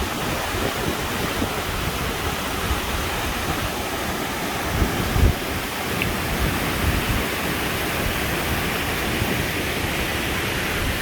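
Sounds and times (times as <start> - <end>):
stream water flowing: 0.0 - 11.0
wind buffeting microphone: 0.0 - 11.0.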